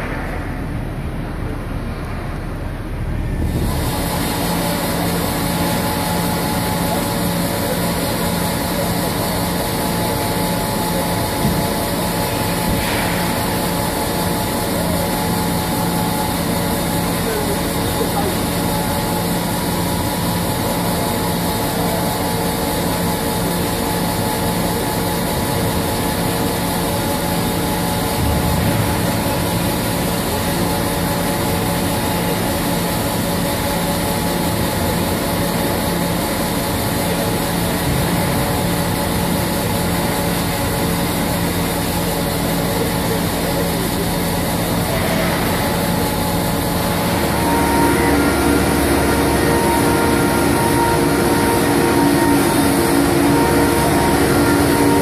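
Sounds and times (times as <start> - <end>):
machine motors humming: 0.0 - 55.0.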